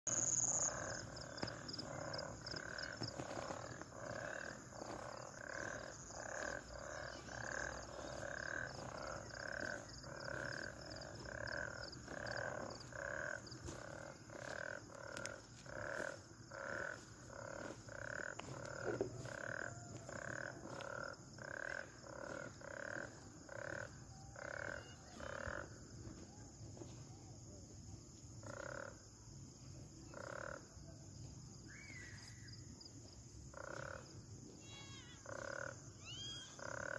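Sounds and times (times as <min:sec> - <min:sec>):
frog croaking: 0:00.1 - 0:25.9, 0:28.4 - 0:29.2, 0:30.0 - 0:30.8, 0:33.5 - 0:36.9.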